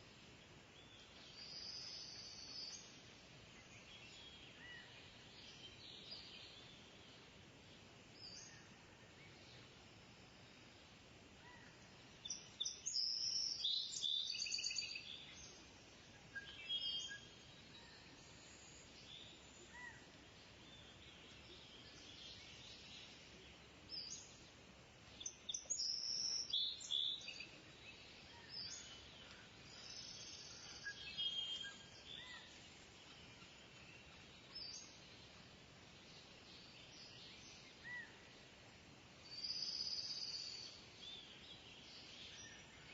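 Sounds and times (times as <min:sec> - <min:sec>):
faint background hiss: 0:00.0 - 0:42.9.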